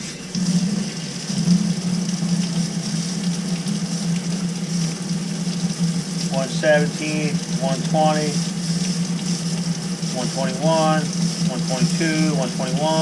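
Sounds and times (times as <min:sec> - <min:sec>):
faucet water running: 0:00.0 - 0:13.0
low plumbing hum: 0:00.0 - 0:13.0.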